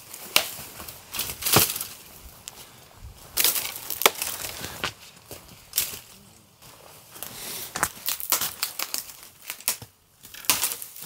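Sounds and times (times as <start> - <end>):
dry branches snapping: 0.0 - 11.0
twigs and foliage rustling: 0.0 - 11.0.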